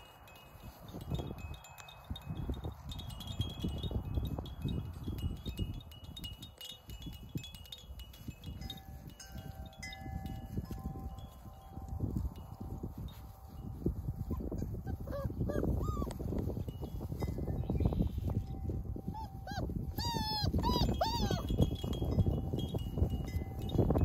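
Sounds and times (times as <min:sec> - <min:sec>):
wind chime ringing: 0:00.0 - 0:14.3, 0:15.8 - 0:24.0.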